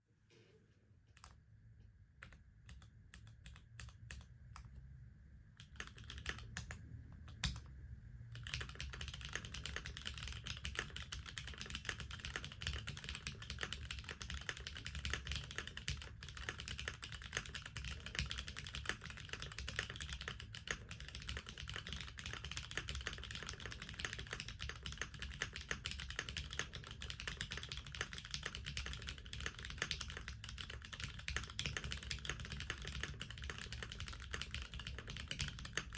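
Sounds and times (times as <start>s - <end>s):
mechanical keyboard typing: 2.2s - 4.7s, 5.6s - 7.7s, 8.3s - 35.9s.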